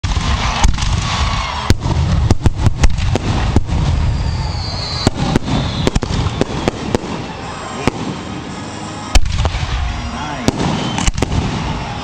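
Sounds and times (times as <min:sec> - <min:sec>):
firework whistling: 0:00.0 - 0:12.0
fireworks bangs: 0:00.0 - 0:12.0.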